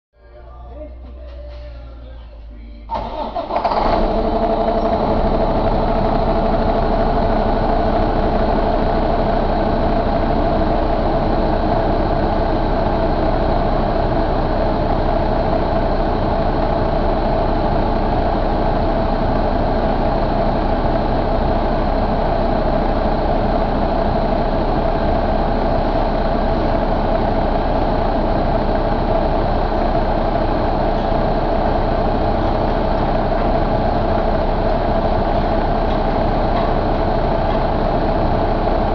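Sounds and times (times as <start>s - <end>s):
diesel engine idling: 0.2s - 38.9s.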